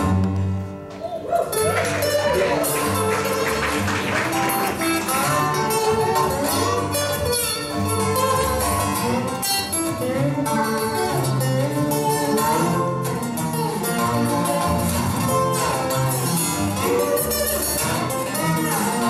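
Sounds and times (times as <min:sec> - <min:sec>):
fingerpicked acoustic guitar: 0:00.0 - 0:19.0.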